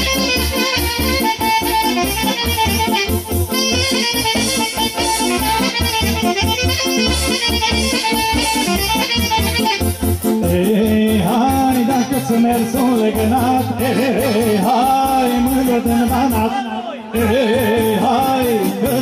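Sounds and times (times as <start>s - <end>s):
saxophone fast melody: 0.0s - 16.4s
steady bass beat: 0.0s - 16.5s.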